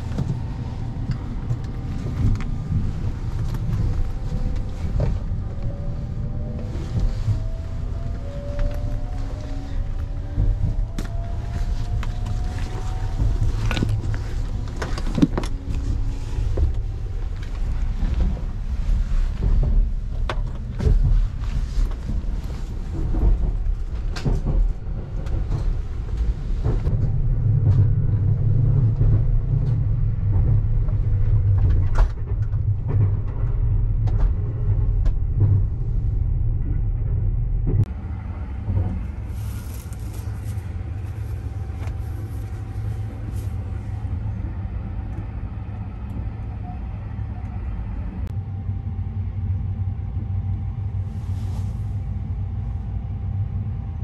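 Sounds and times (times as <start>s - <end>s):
train rumbling inside compartment: 0.0s - 54.0s.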